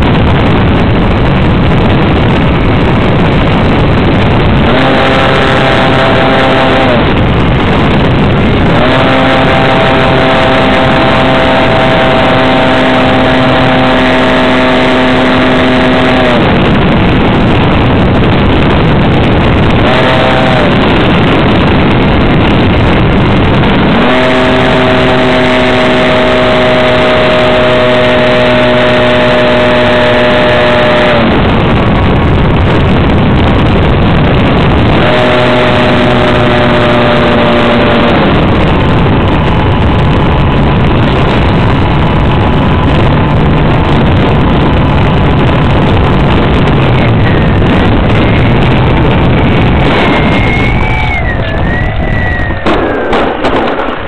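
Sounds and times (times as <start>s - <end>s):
model airplane engine: 0.0s - 52.5s
wind rushing over microphone: 0.0s - 54.0s.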